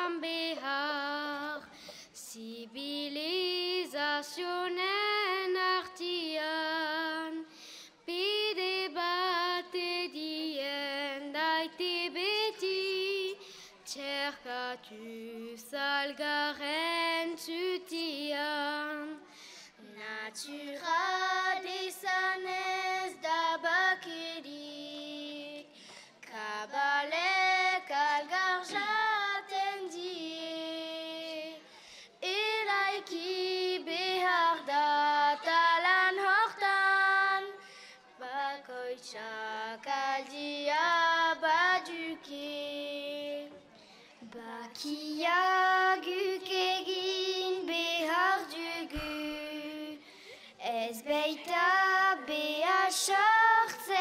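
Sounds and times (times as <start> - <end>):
girls singing unaccompanied: 0.0 - 43.6, 44.2 - 50.0, 50.6 - 54.0.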